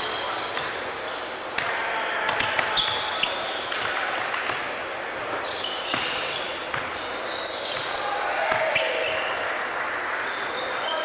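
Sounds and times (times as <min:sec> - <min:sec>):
sneakers squeaking: 0:00.0 - 0:09.4, 0:10.1 - 0:11.0
gym background noise: 0:00.0 - 0:11.0.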